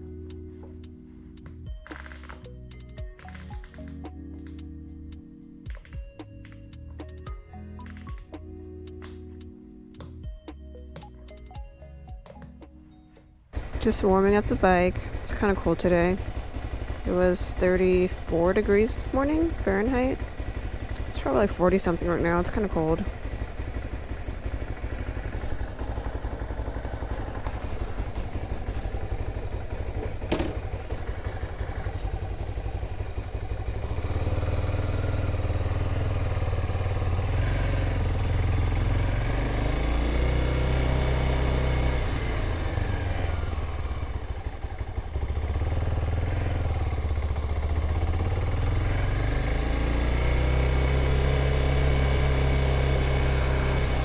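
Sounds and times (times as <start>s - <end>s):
motorcycle engine idling: 0.0s - 12.7s, 13.5s - 54.0s.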